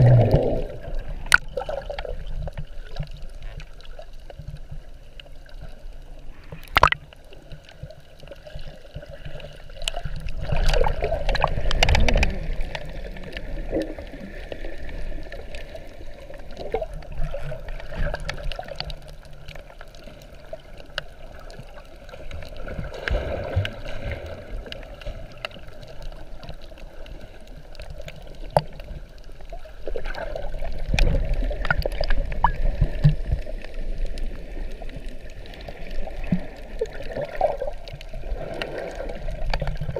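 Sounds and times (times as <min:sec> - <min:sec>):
muffled underwater sloshing: 0:00.0 - 0:39.9
rushing water surges: 0:00.0 - 0:39.9.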